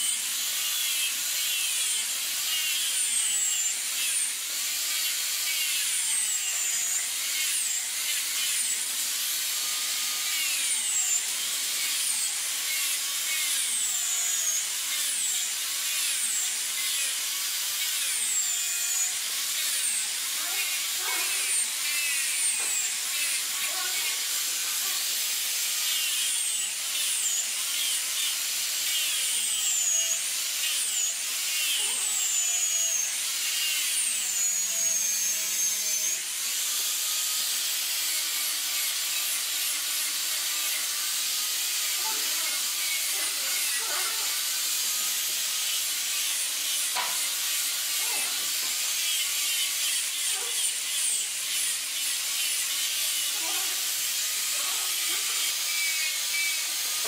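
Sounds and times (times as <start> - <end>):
angle grinder sanding wood: 0.0 - 57.0.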